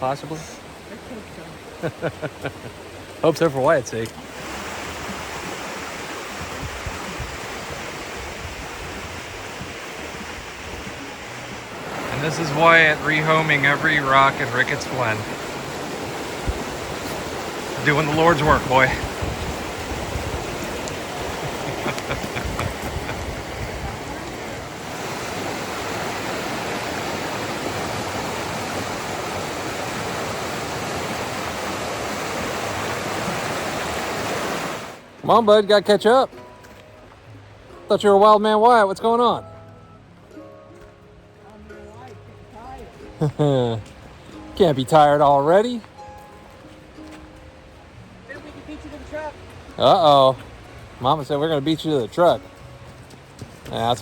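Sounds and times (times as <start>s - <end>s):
water rushing over rocks: 0.0s - 36.4s, 42.9s - 54.0s.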